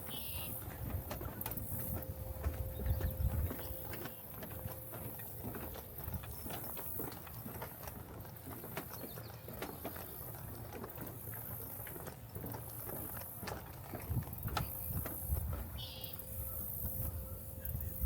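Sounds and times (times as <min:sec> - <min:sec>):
footsteps on trail: 0:00.0 - 0:18.0.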